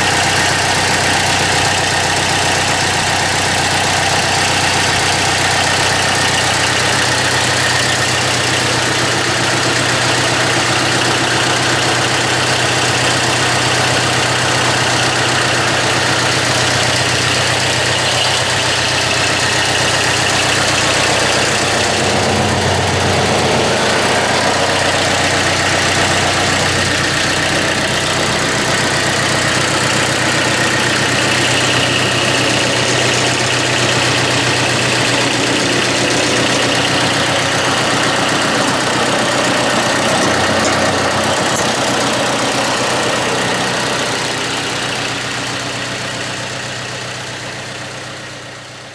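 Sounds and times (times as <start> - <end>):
diesel tractor engine idling: 0.0 - 48.9.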